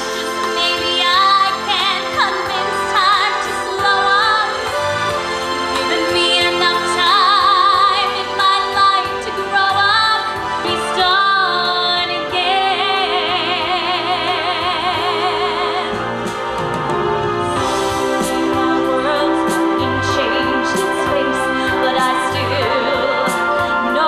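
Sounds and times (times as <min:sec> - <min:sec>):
musical accompaniment: 0:00.0 - 0:24.0.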